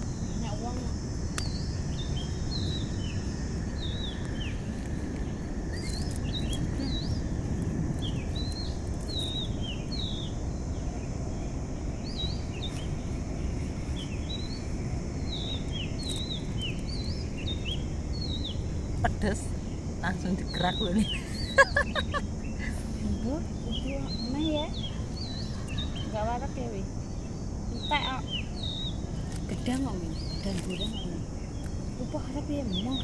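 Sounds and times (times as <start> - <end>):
bird chirping: 0.0 - 11.1, 12.0 - 26.4, 27.0 - 33.0
low background rumble: 0.0 - 33.0.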